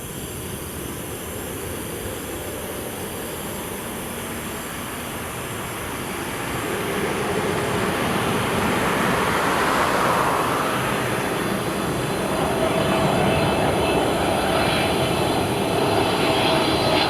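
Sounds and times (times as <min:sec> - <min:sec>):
jet airliner engines on approach: 0:00.0 - 0:17.0.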